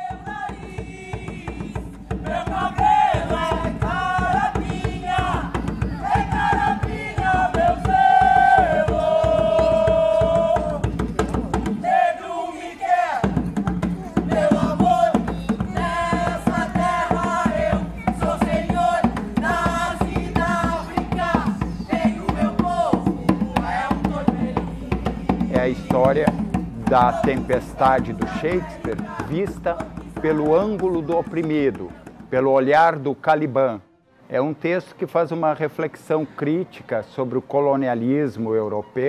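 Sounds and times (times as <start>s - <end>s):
drumming: 0.0s - 12.1s, 13.2s - 32.5s
voices chanting and singing: 0.0s - 32.6s.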